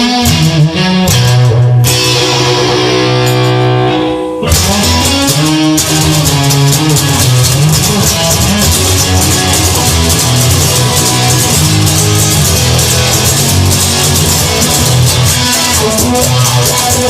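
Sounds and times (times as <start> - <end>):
held guitar chord ringing: 0.0 - 17.0
instrumental rock music: 0.0 - 17.0.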